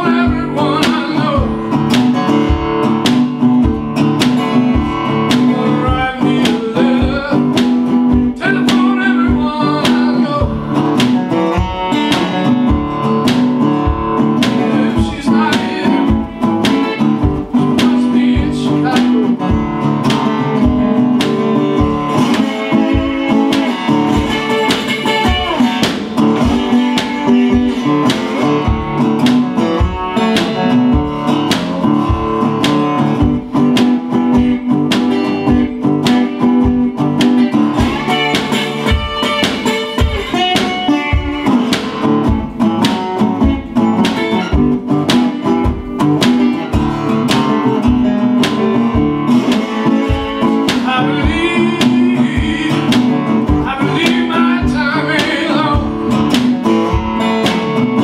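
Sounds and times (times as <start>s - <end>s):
acoustic blues guitar: 0.0s - 58.0s.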